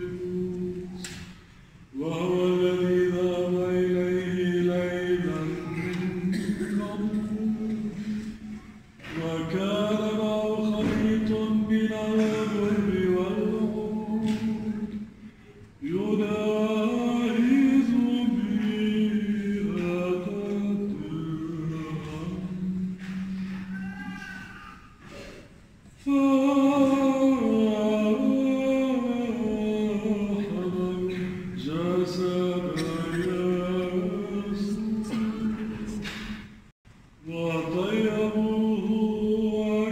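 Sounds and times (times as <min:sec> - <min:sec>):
choir singing a slow chant: 0:00.0 - 0:24.3, 0:26.0 - 0:36.5, 0:37.2 - 0:39.9.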